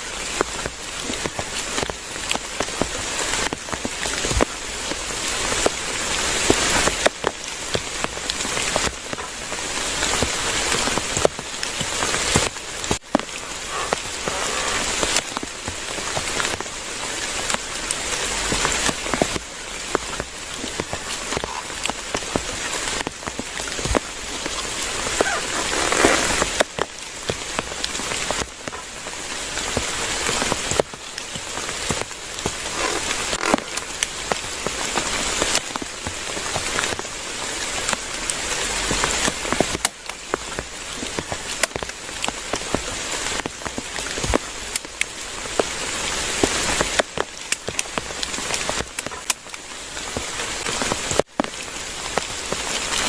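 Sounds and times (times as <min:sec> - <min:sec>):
heavy rain falling: 0:00.0 - 0:53.0
raindrops pattering on surfaces: 0:00.0 - 0:53.0.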